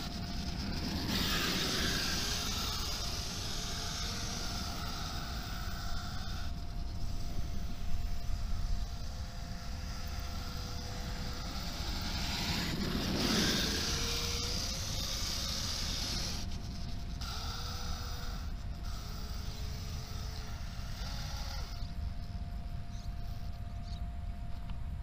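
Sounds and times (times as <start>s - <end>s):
drone whine: 0.0s - 25.0s.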